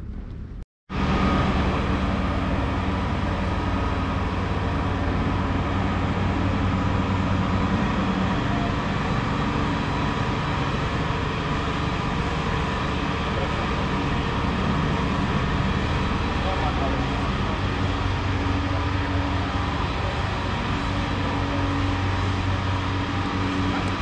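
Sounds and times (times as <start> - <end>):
vehicle running rumble: 0.0 - 24.0.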